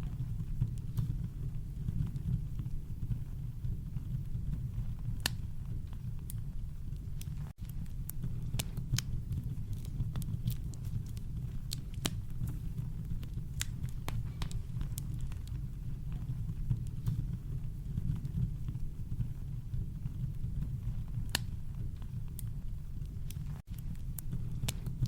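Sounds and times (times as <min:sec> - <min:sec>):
burning wood crackling and popping: 0:00.0 - 0:25.0.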